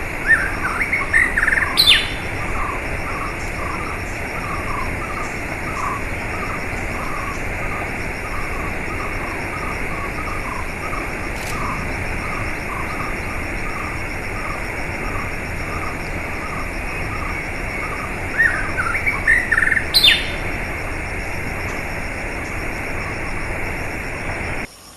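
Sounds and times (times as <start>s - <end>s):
sweeping bird calls: 0.0s - 24.9s
small bird chirping: 0.2s - 20.5s.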